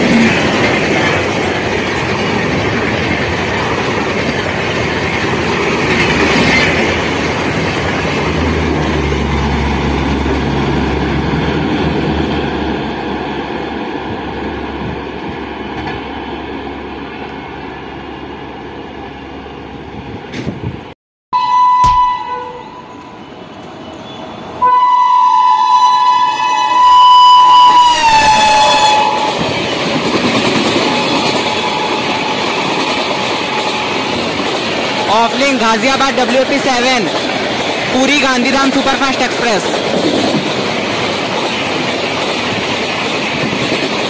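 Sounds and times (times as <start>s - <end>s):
train wheels rushing on rail: 0.0s - 20.9s, 23.3s - 44.0s.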